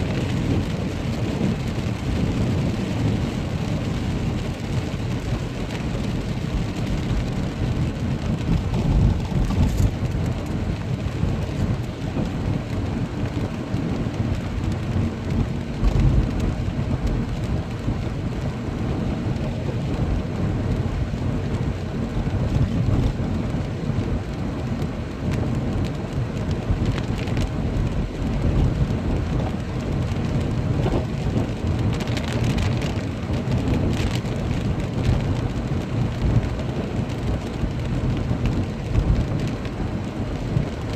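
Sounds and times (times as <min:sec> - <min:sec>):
deep rumble: 0:00.0 - 0:40.9
heavy rain downpour: 0:00.0 - 0:40.9.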